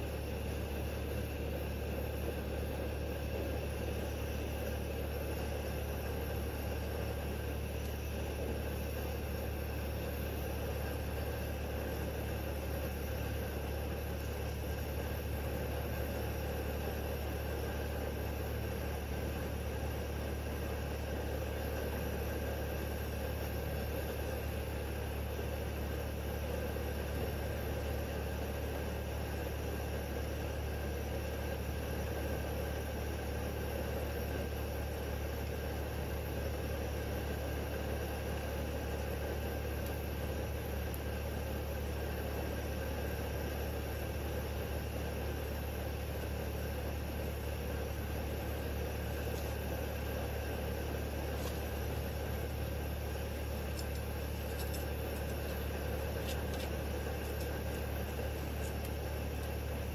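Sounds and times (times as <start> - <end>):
camping stove hum: 0.0 - 59.9.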